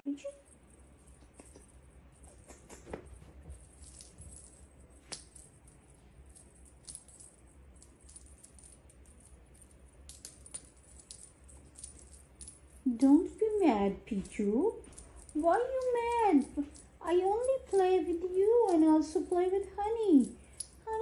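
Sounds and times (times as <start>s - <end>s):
wand toy jingling and rattling: 0.2s - 21.0s.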